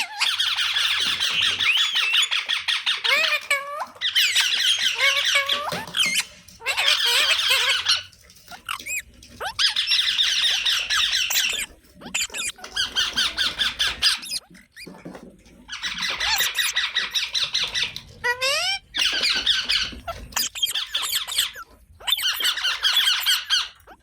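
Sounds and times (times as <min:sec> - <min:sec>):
parrot squawking and chattering: 0:00.0 - 0:24.0.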